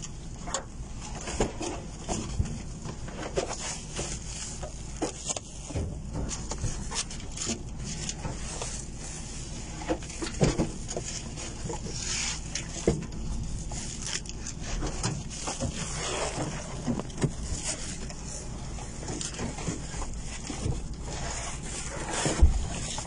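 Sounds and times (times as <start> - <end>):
steady low rumble: 0.0 - 23.0
plastic sacks rustling: 1.8 - 23.0.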